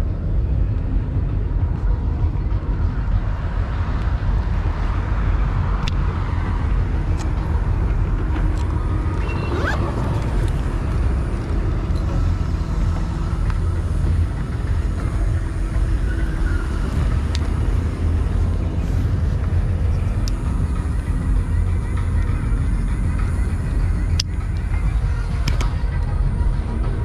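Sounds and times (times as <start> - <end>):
road noise: 0.0 - 27.0
wind: 0.0 - 27.0.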